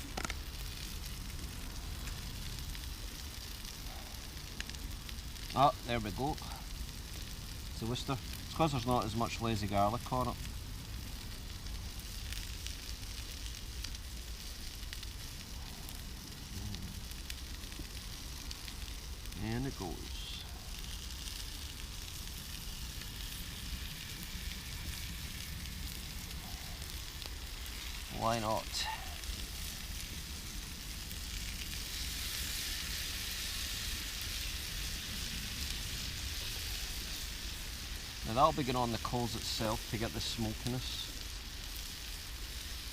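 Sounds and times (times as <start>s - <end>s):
burning sticks crackling: 0.0s - 42.9s
food sizzling over campfire: 0.0s - 42.9s.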